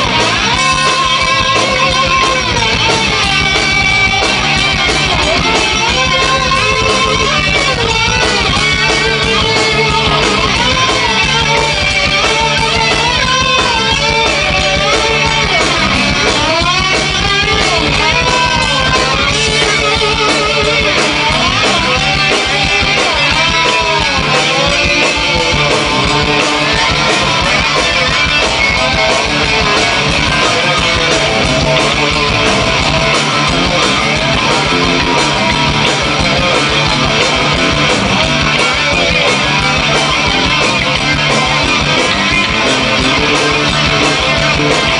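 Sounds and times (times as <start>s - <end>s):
electric guitar lead with bends: 0.0s - 44.9s
live rock band: 0.0s - 44.9s.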